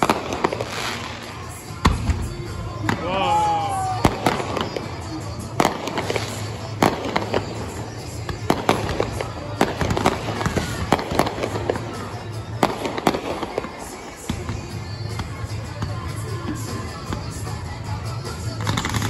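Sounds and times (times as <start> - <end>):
fireworks shells bursting: 0.0 - 3.1, 3.8 - 19.0.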